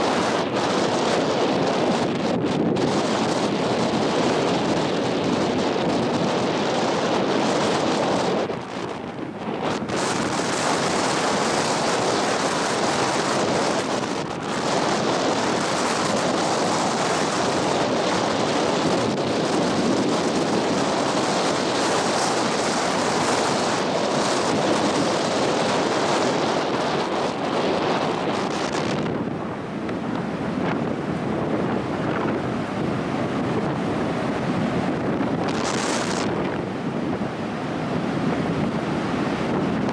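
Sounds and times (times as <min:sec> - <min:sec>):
surf breaking on beach: 0:00.0 - 0:39.9
wind buffeting the microphone: 0:00.0 - 0:39.9.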